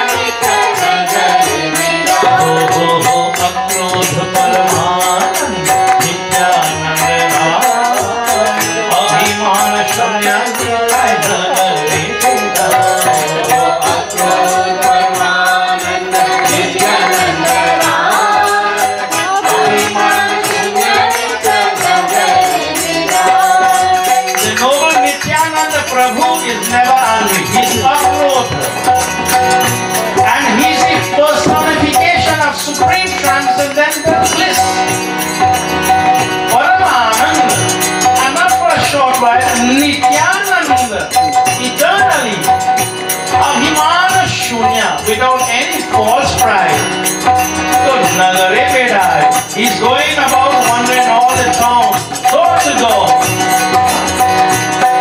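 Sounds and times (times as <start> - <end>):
man singing: 0.0 - 34.9, 36.5 - 42.6, 43.3 - 47.0, 47.6 - 53.4
fast percussion rhythm: 0.0 - 55.0
harmonium drone: 0.0 - 55.0.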